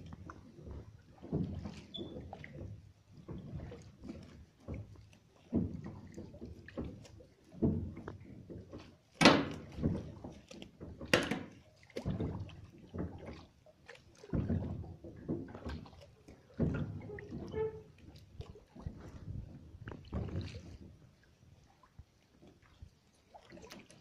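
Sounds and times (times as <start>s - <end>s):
oars splashing water: 0.0s - 24.0s.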